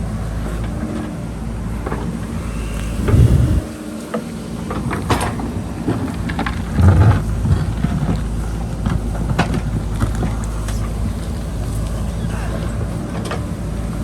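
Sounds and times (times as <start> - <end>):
diesel engine under load: 0.0 - 14.0.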